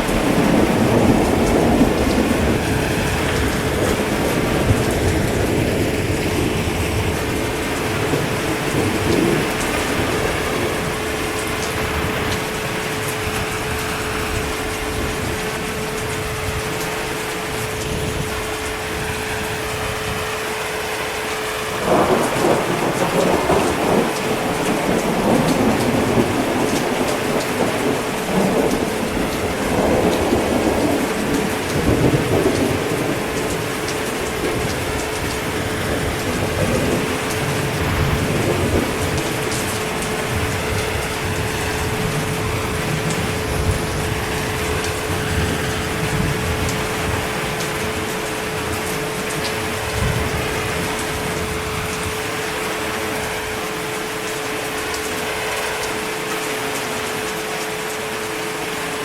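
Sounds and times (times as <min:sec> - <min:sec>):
thunder rumbling: 0:00.0 - 0:20.9, 0:21.5 - 0:56.0
heavy rain: 0:00.0 - 0:59.0.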